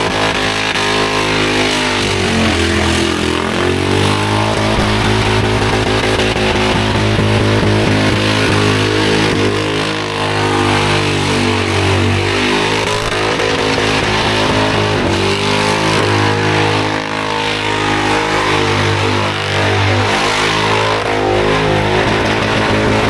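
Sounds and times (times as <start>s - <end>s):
car engine revving hard: 0.0s - 23.0s.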